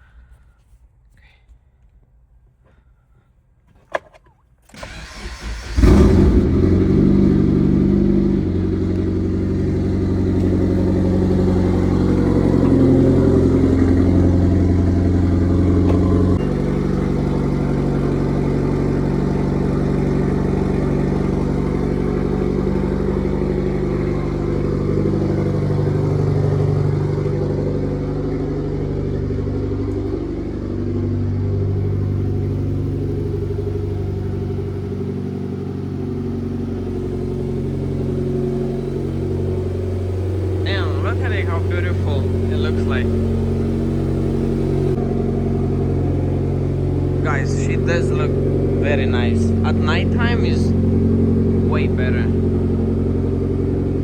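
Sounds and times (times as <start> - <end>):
car engine cranking: 3.7 - 54.0
car engine fast idle: 4.7 - 54.0.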